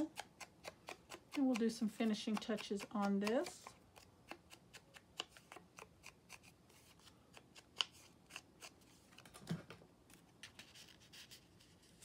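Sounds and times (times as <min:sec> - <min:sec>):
paper and card clicks and rustles: 0:02.3 - 0:12.0.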